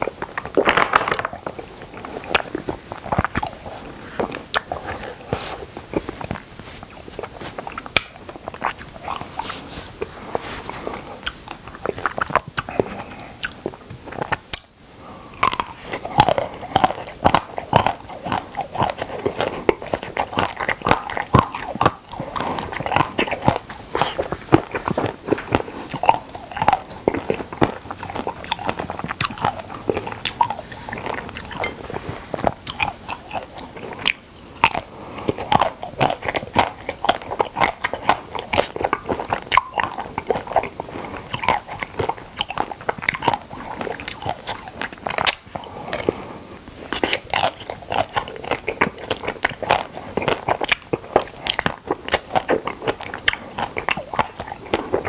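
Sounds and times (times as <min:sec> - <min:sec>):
crunching frozen ice cream bar: 0:00.0 - 0:55.0
wet chewing: 0:00.0 - 0:55.0.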